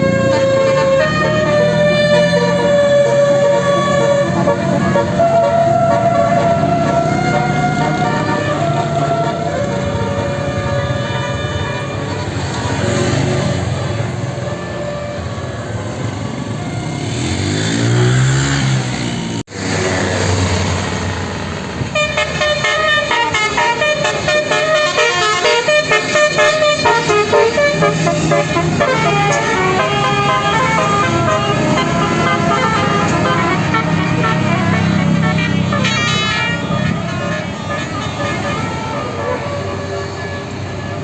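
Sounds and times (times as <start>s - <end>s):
musical air horn tune: 0.0s - 15.3s, 21.9s - 41.0s
vehicle engine passing: 0.0s - 41.0s.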